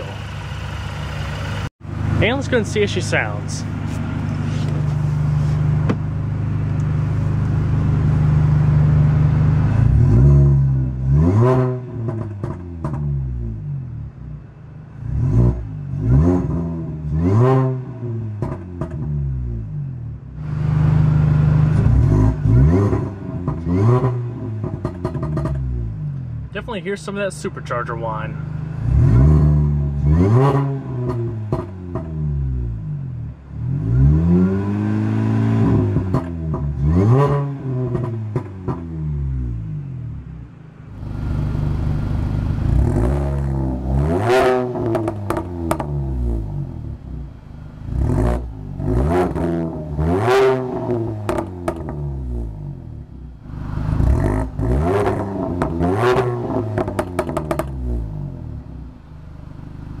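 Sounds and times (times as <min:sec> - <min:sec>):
car engine revving: 0:00.0 - 1:00.0
supercharger whine: 0:00.0 - 1:00.0.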